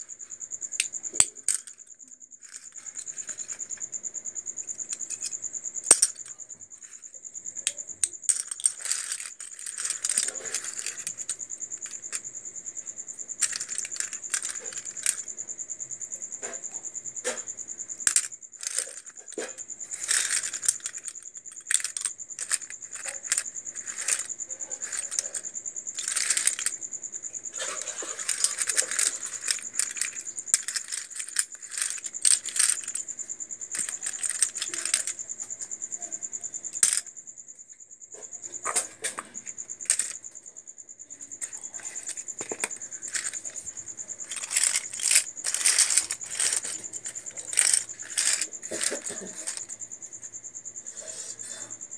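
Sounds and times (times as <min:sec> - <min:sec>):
high-pitched insect trill: 0:00.0 - 0:51.9
plastic parts clicking and clattering: 0:00.7 - 0:04.0, 0:04.7 - 0:12.3, 0:13.3 - 0:15.3, 0:16.4 - 0:35.6, 0:36.7 - 0:37.0, 0:38.2 - 0:40.2, 0:41.3 - 0:49.8.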